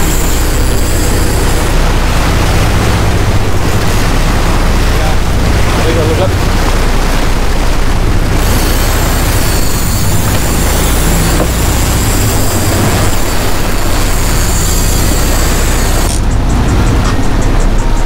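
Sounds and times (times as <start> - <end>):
boat engine running: 0.0 - 18.0
water rushing in wake: 0.0 - 18.0
wind: 0.0 - 18.0.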